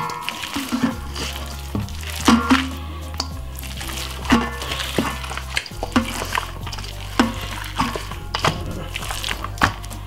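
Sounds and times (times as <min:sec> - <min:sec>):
background music with bass line: 0:00.0 - 0:10.0
hands squishing wet marinade: 0:00.0 - 0:10.0.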